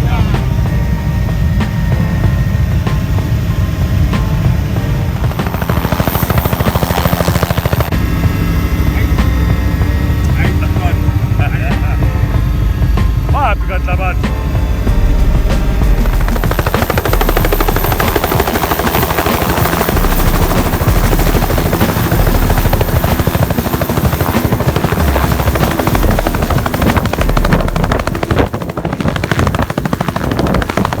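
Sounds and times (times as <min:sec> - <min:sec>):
helicopter rotor chop and engine: 0:00.0 - 0:31.0.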